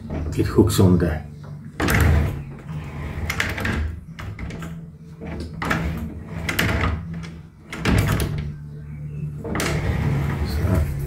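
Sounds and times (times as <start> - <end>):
door scraping and knocking: 0.0 - 0.8, 1.4 - 8.6, 9.2 - 11.0.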